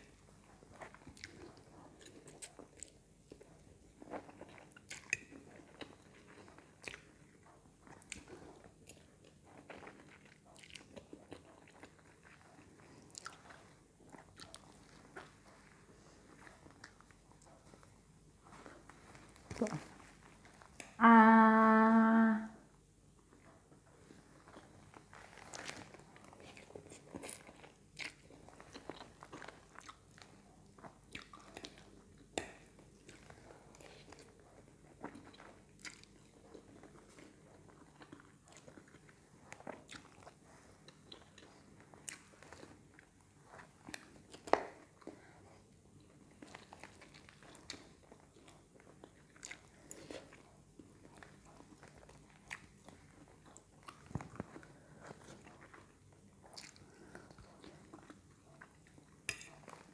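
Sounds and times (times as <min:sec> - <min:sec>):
person chewing food: 0:00.0 - 0:21.0, 0:23.2 - 0:59.9.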